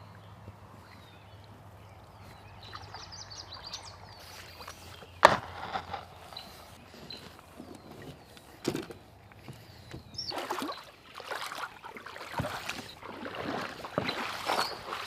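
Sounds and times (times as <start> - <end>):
water sloshing: 0.0 - 15.0.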